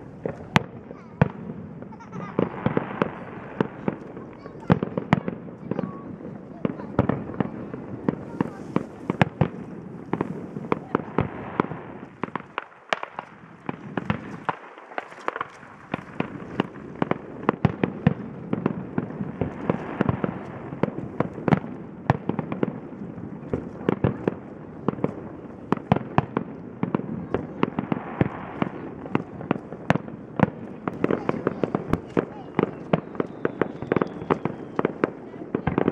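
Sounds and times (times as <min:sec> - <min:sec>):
fireworks bangs: 0:00.0 - 0:35.9.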